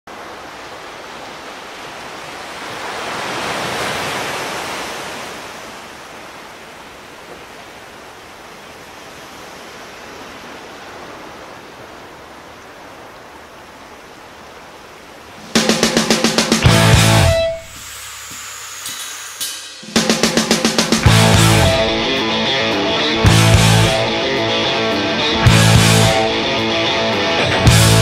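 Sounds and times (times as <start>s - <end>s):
ocean surf on beach: 0.1s - 28.0s.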